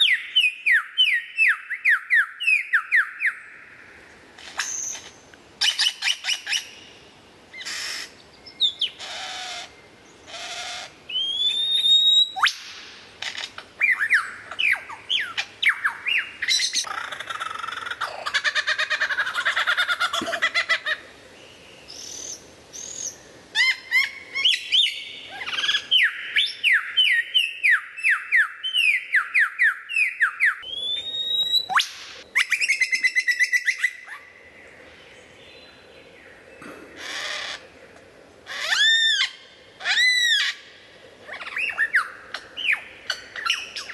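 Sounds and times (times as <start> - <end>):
lyrebird singing: 4.4 - 37.7, 38.5 - 43.9.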